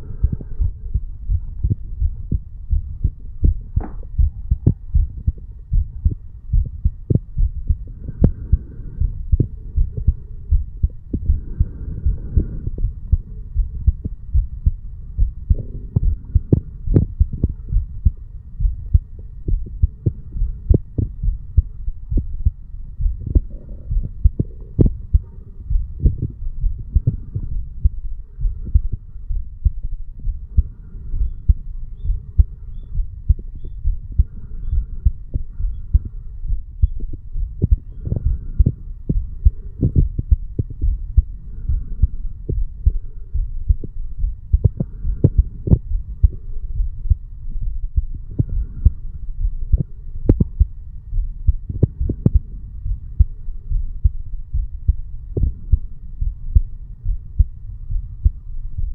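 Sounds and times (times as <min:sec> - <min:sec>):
heartbeat: 0:00.0 - 0:58.9.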